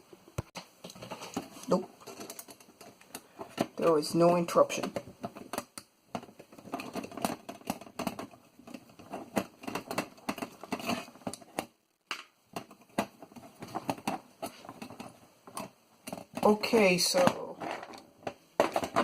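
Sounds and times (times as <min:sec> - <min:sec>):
clicks and scrapes of disassembly: 0:00.8 - 0:03.8, 0:04.8 - 0:16.5, 0:17.2 - 0:19.0.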